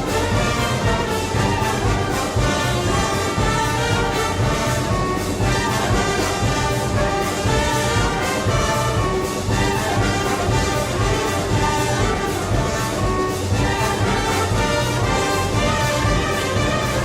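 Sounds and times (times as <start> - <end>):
brass band playing march: 0.0 - 17.0
steady percussion beat: 0.0 - 17.0.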